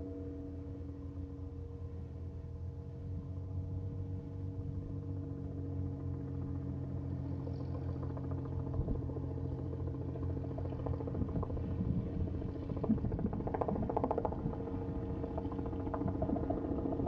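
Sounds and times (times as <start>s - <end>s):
aircraft engine humming: 0.0s - 17.0s.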